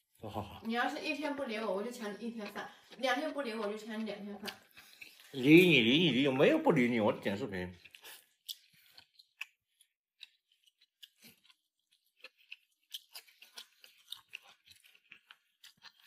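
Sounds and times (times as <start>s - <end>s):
soft wet chewing: 0.0s - 16.0s.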